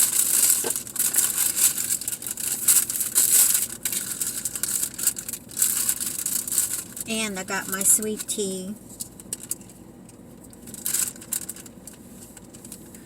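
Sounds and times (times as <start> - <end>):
food packaging crinkling: 0.0 - 8.4, 9.0 - 13.0.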